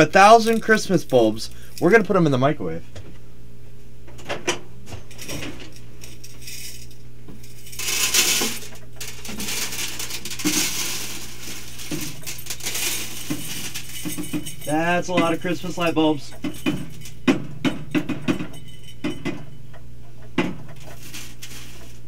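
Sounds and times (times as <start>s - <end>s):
glass bulbs clinking and clattering: 0.0s - 2.1s, 4.9s - 22.0s.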